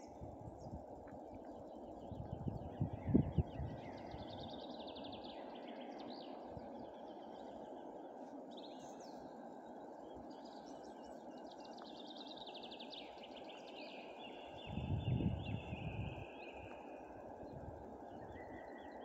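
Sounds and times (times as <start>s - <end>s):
songbirds singing trills: 0.0s - 19.0s.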